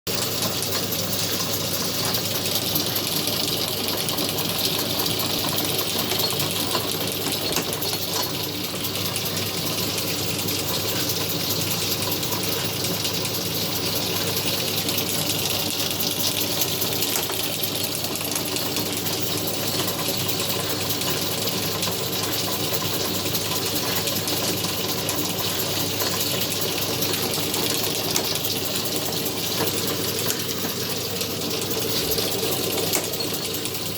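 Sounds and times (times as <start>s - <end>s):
metal lathe running: 0.1s - 33.9s.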